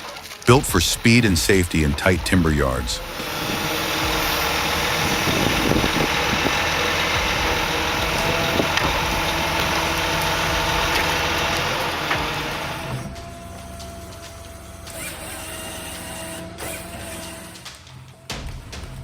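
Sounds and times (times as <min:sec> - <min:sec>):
crane engine running: 0:00.0 - 0:18.7.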